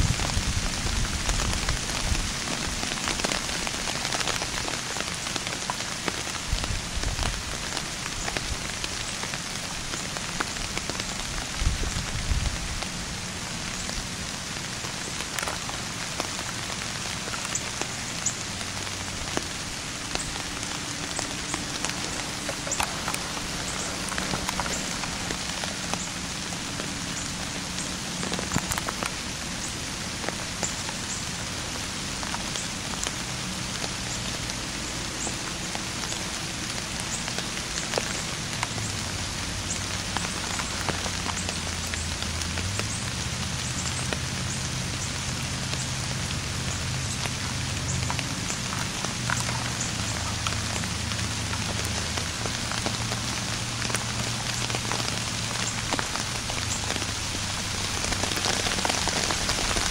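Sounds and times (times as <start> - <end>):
raindrops ticking: 0.0 - 59.9
steady rain hiss: 0.0 - 59.9.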